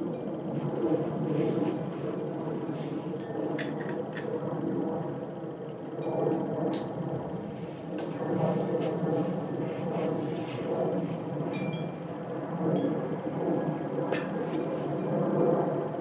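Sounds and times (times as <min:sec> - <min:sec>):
low rumbling: 0:00.0 - 0:15.2.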